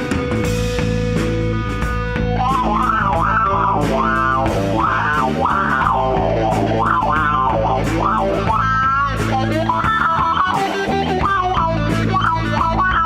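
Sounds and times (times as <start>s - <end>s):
bass guitar: 0.0s - 13.0s
drums: 0.0s - 13.0s
lead guitar bending notes: 0.0s - 13.0s.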